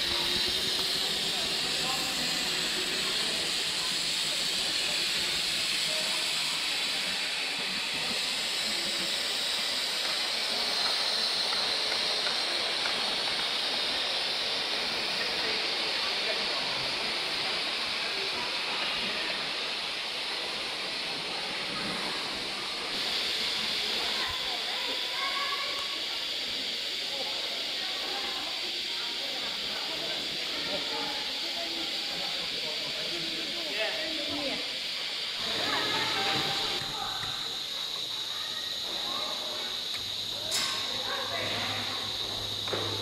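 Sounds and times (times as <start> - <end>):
steam hissing: 0.0 - 43.0.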